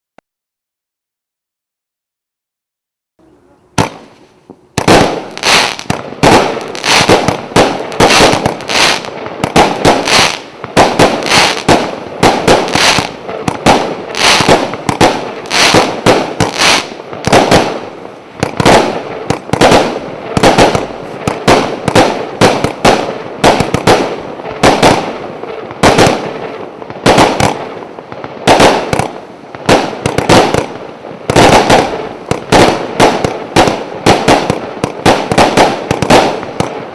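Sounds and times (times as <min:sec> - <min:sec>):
fireworks launches and bangs: 0:04.8 - 0:36.9.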